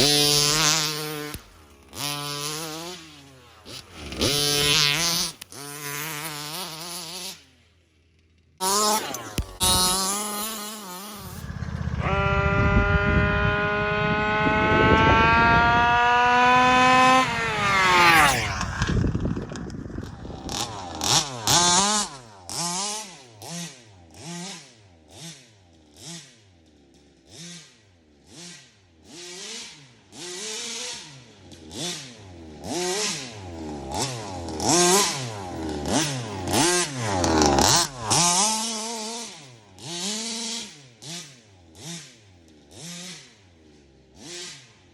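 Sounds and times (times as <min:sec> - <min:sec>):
small two-stroke engine revving: 0:00.0 - 0:44.9.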